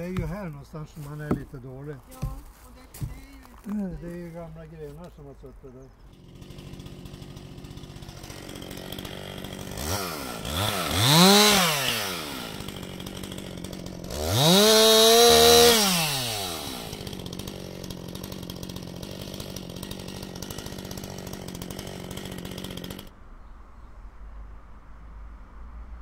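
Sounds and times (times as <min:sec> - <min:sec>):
chainsaw revving and idling: 0:00.0 - 0:05.2, 0:06.0 - 0:23.1.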